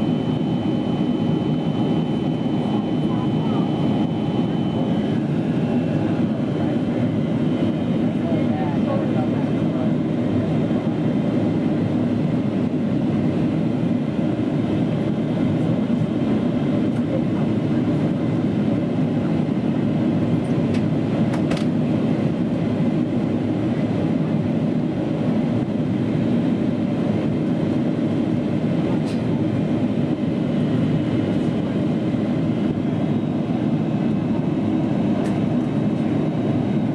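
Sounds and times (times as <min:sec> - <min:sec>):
airplane cabin roar: 0:00.0 - 0:36.9.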